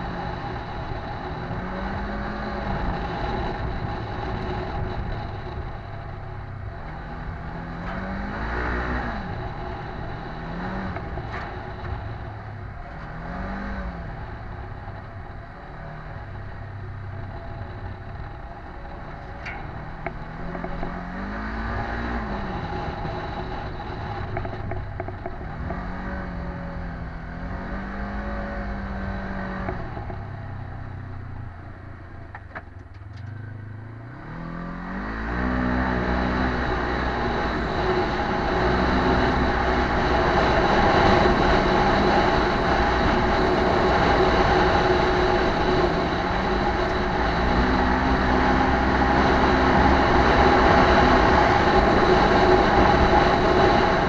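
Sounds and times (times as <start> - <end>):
vehicle engine revving: 0.0 - 54.0
vehicle rattles and clicks: 0.0 - 54.0.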